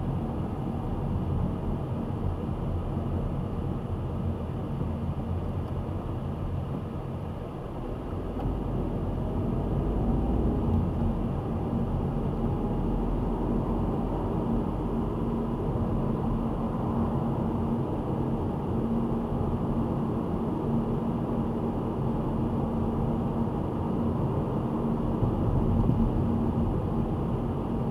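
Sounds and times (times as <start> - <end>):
car road and engine rumble: 0.0 - 27.9.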